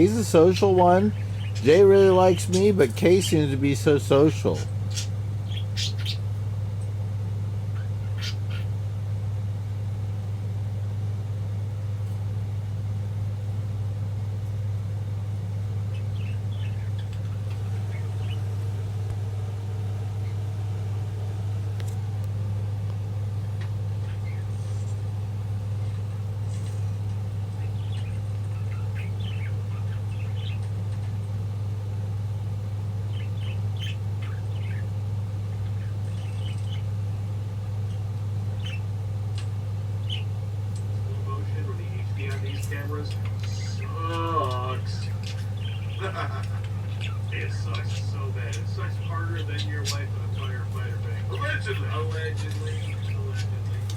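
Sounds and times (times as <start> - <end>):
budgies chirping: 0.0 - 9.0, 15.6 - 21.1, 23.2 - 53.9
steady low hum: 0.0 - 53.9.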